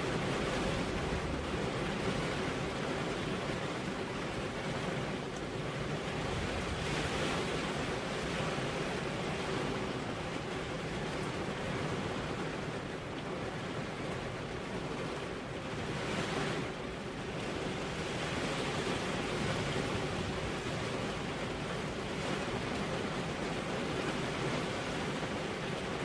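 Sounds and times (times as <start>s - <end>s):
rain with wind: 0.0s - 26.0s.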